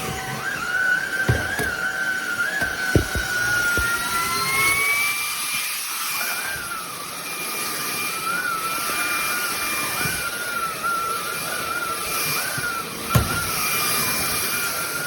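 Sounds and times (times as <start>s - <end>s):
vacuum cleaner motor whining: 0.0s - 5.6s, 6.2s - 15.0s.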